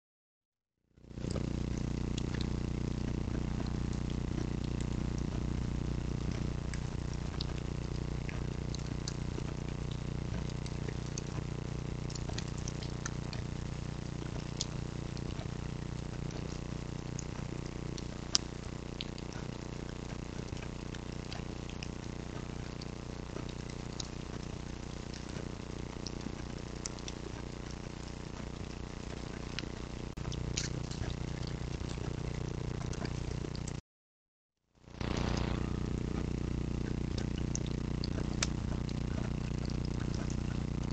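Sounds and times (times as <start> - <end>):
faint ticks and crackles: 1.0 - 33.8, 34.9 - 40.9
microphone hiss and hum: 1.0 - 33.8, 34.8 - 40.9.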